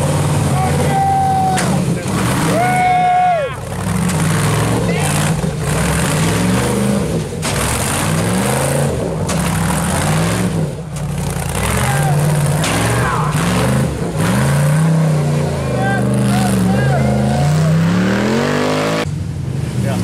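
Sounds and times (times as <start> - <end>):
engine revving in bursts: 1.6 - 2.8, 3.6 - 19.1.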